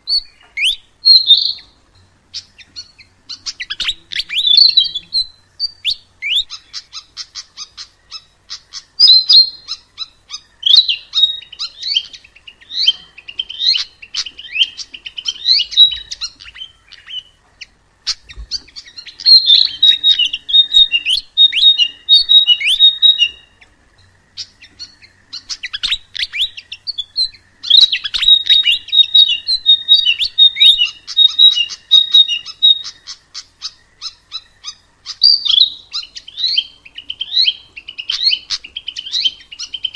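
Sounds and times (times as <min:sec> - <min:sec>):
small bird singing chirps and trills: 0:00.0 - 0:39.9.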